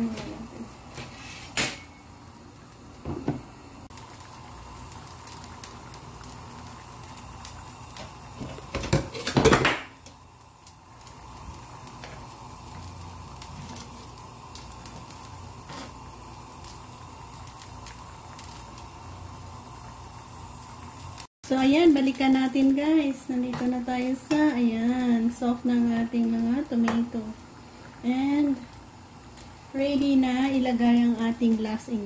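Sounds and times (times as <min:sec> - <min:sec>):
broth simmering and bubbling: 0:02.0 - 0:32.0.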